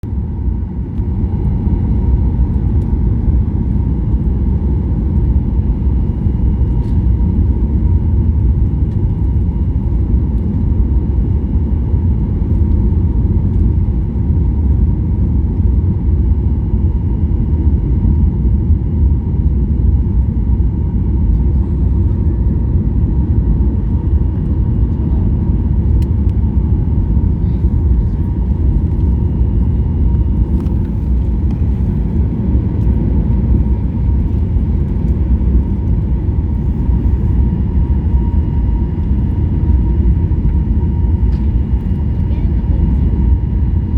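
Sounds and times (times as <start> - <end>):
airplane low rumble: 0.0 - 43.9.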